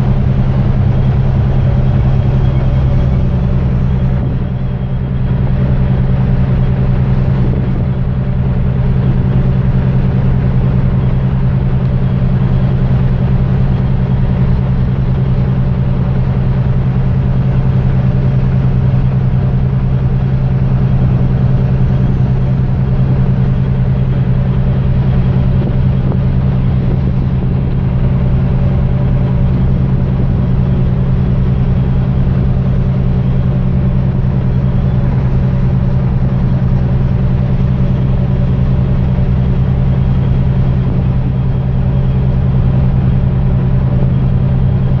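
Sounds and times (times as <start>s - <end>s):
ship engines droning: 0.0s - 45.0s.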